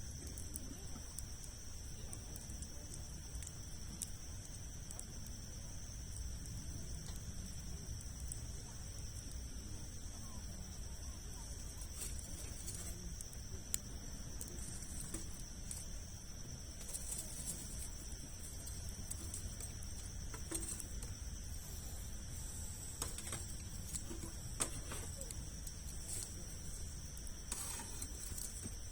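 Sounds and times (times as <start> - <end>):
campfire crackling and popping: 0.0 - 28.9
high insect drone: 0.0 - 28.9
low fire rumble: 0.0 - 28.9.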